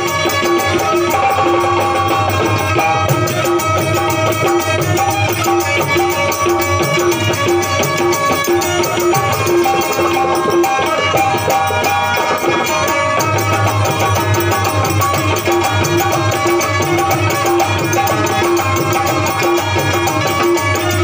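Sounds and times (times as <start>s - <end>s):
hand drum rhythm: 0.0s - 21.0s.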